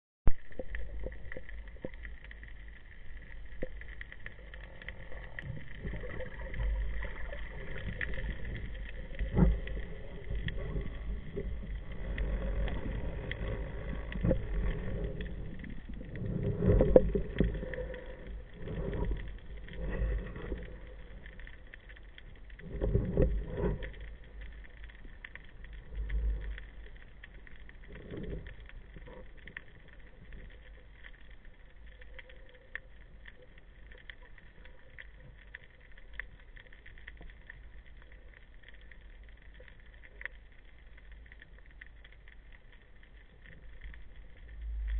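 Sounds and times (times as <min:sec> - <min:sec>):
muffled underwater water rumble: 0:00.3 - 0:44.9.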